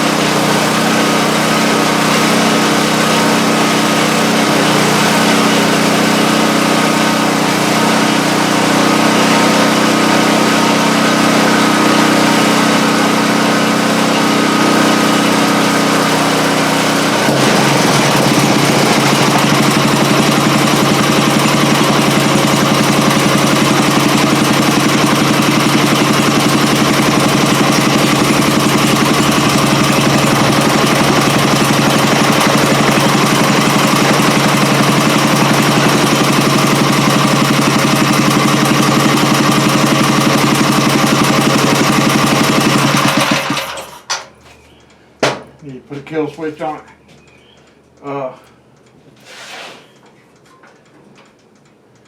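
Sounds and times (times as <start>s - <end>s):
small engine running steadily: 0.0s - 44.2s.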